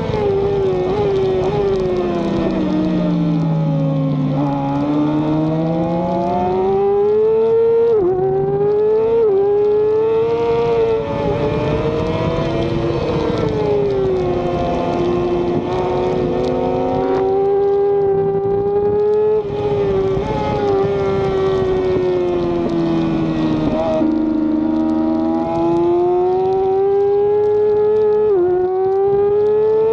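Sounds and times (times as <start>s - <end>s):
racing motorcycle engine: 0.0s - 29.9s.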